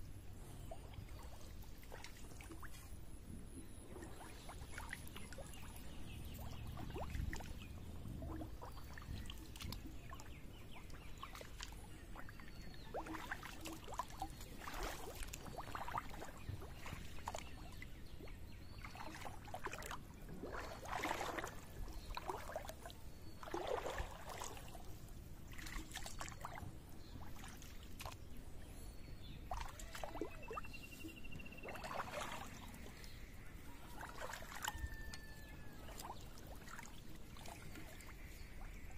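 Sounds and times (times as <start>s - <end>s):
water sloshing and splashing: 0.4s - 38.9s.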